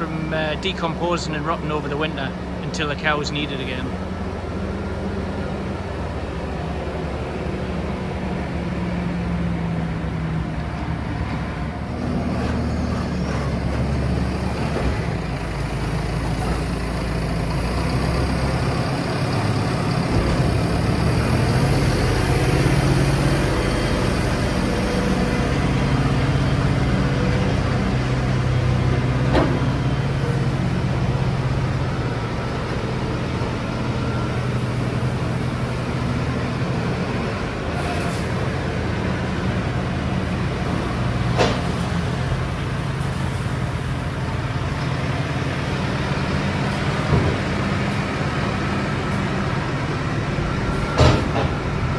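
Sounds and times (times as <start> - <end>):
tractor diesel engines under load: 0.0 - 51.9.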